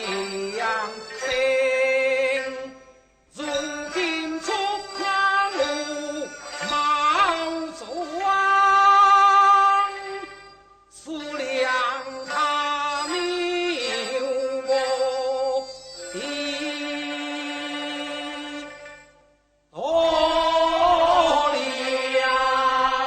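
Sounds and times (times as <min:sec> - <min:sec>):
person singing opera: 0:00.0 - 0:02.8, 0:03.4 - 0:10.3, 0:11.0 - 0:18.9, 0:19.8 - 0:23.0.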